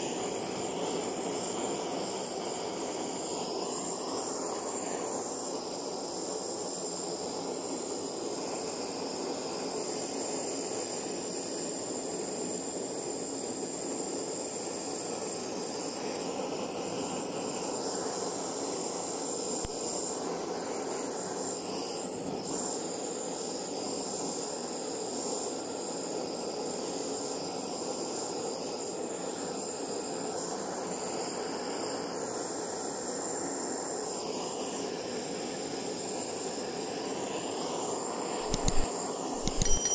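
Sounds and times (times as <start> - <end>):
gas torch hissing: 0.0 - 39.8.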